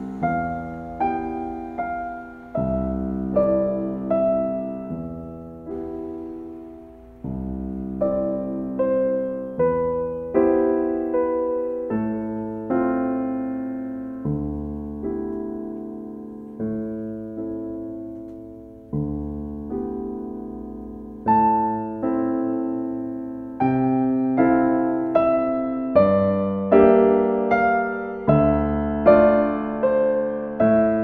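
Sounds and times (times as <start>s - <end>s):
slow gentle piano music: 0.0s - 31.0s.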